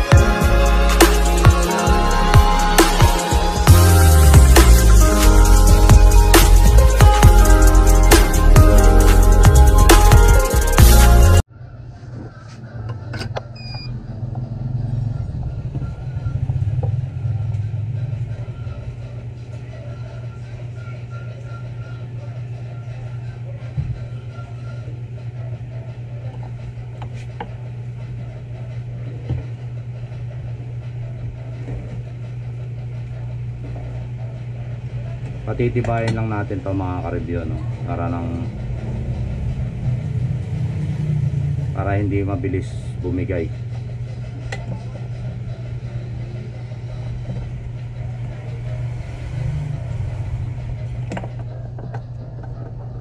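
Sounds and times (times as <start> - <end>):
low machine hum: 0.0 - 53.0.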